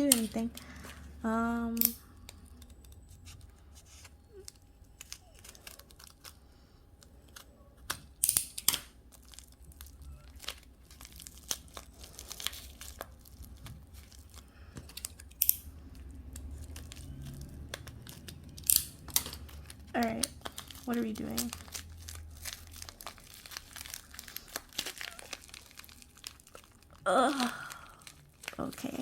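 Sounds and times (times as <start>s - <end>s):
parcel wrapping tearing and crinkling: 0.0s - 29.0s.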